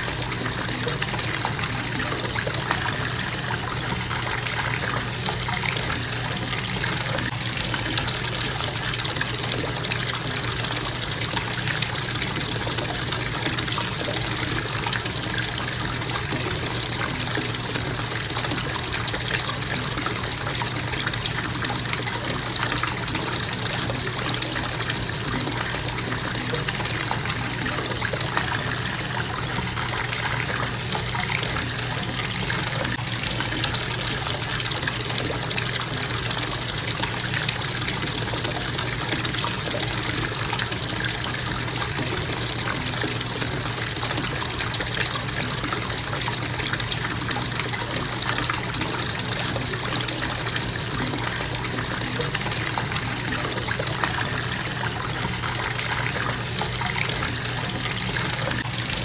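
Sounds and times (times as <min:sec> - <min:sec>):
faucet running into bathtub: 0:00.0 - 0:59.0.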